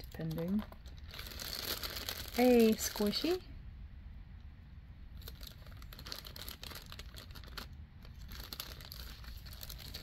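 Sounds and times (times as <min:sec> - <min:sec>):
plastic packaging crinkling: 0:00.0 - 0:03.4, 0:05.2 - 0:10.0.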